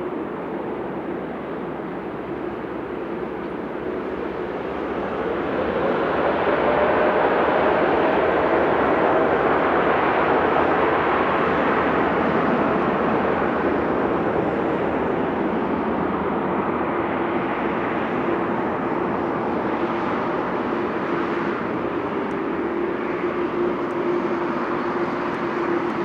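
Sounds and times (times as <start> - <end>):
jet engines roaring: 0.2 - 26.0.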